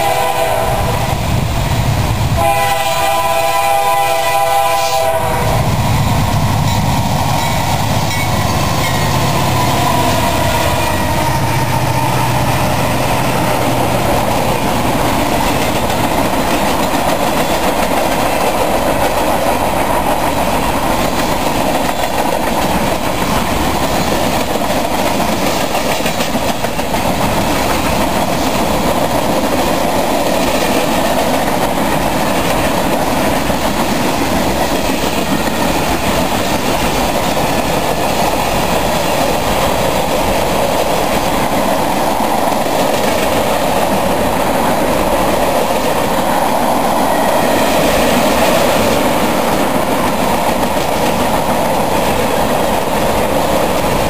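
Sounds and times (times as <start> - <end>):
diesel locomotive engine hum: 0.0 - 54.0
train cars rumbling over rails: 0.0 - 54.0.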